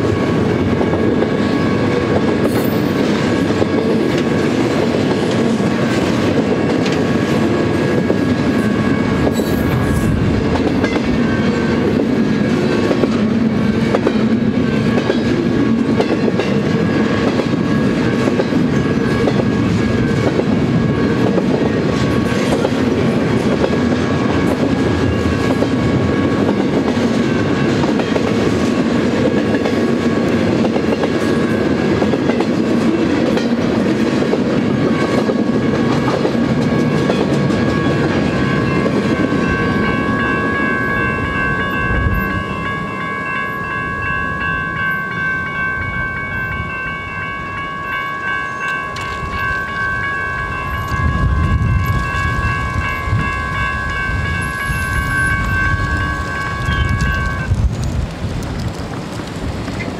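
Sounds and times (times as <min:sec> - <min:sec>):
crossing warning bell ringing: 0:00.0 - 0:57.6
freight train rolling on rails: 0:00.0 - 0:59.9.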